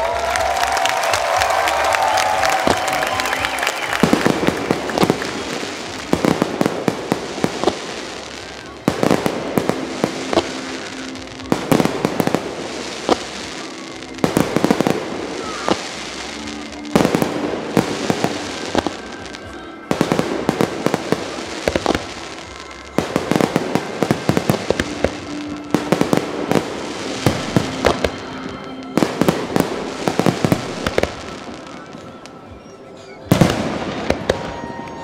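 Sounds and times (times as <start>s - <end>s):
firework bangs and crackle: 0.1s - 35.0s.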